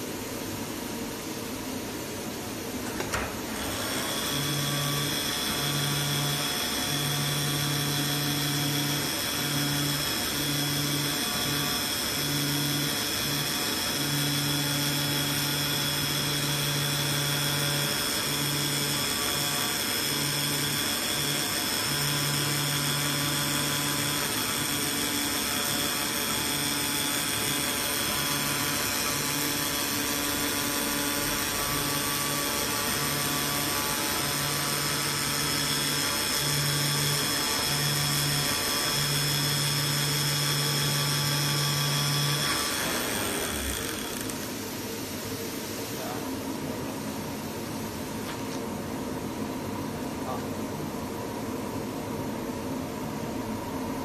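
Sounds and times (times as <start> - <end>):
cutter plotter high-pitched whine: 2.8 - 48.2.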